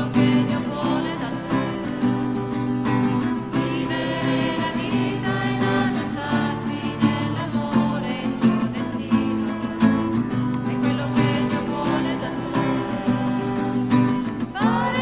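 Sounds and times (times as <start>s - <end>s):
voices singing a hymn: 0.0s - 2.4s, 3.0s - 15.0s
strummed acoustic guitar: 0.0s - 15.0s.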